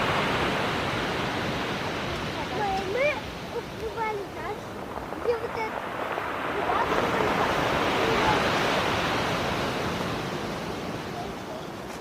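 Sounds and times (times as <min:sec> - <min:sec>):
storm waves breaking: 0:00.0 - 0:12.0.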